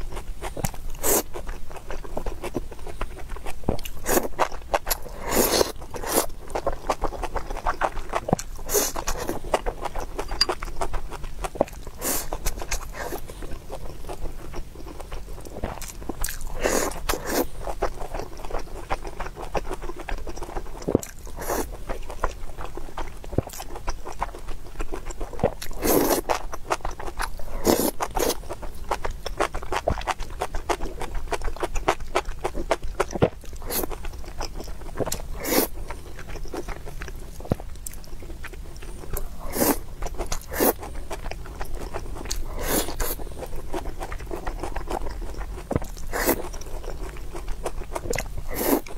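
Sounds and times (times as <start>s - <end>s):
wet chewing mouth sounds: 0.0s - 48.9s.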